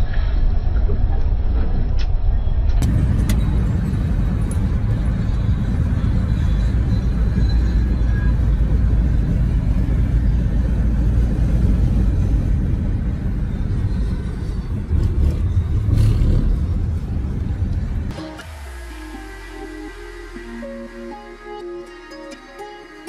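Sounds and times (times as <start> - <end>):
road and engine rumble in car: 0.7 - 19.2.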